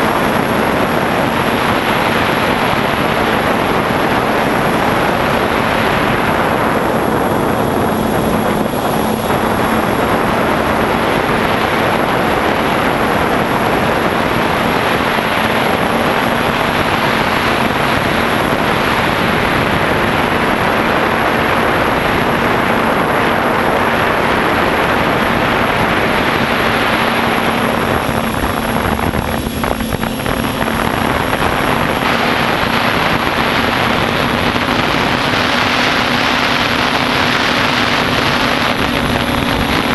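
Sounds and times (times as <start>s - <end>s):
quadcopter propellers droning: 0.0s - 39.9s.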